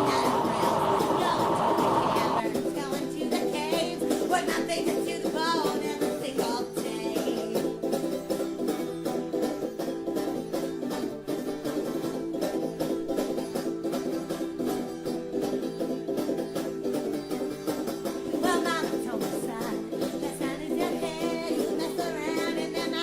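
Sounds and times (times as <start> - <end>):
bluegrass banjo music: 0.0 - 23.0.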